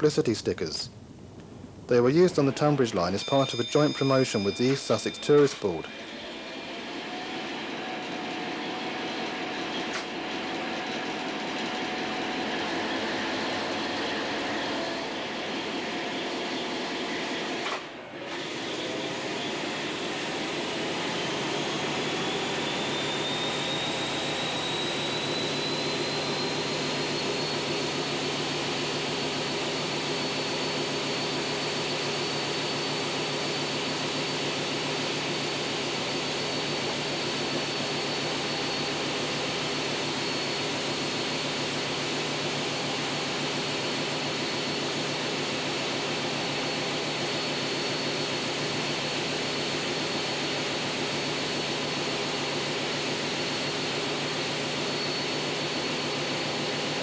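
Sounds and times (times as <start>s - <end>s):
high whine rising in pitch: 1.9s - 57.0s.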